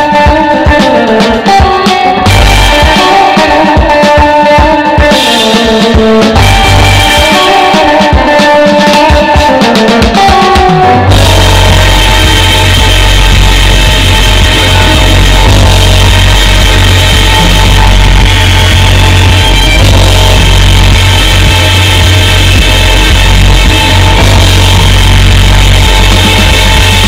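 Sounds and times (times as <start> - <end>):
loud background music: 0.0 - 27.0.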